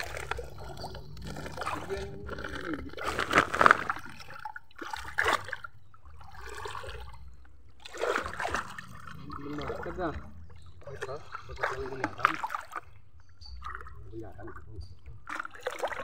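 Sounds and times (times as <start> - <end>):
water sloshing as people wade: 0.0 - 16.0.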